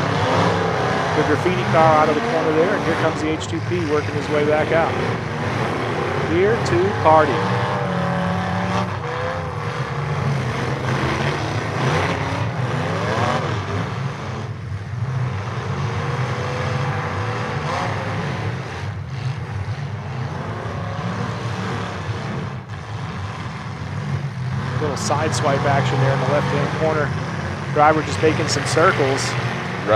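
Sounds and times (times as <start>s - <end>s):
car engines revving: 0.0s - 29.9s.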